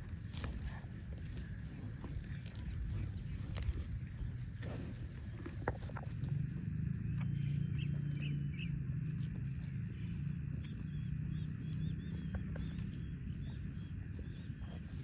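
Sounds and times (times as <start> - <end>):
steady low hum: 0.0 - 15.0
small birds chirping: 1.0 - 15.0.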